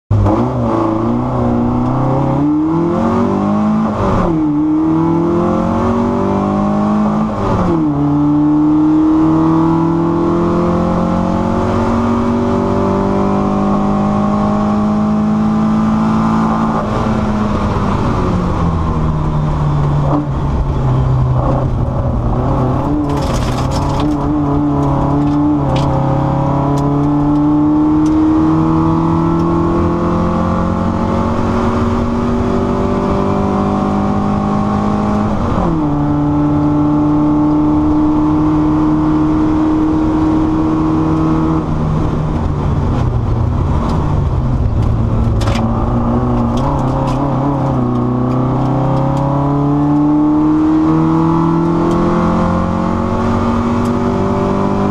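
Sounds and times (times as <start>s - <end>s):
car engine accelerating: 0.1s - 54.9s.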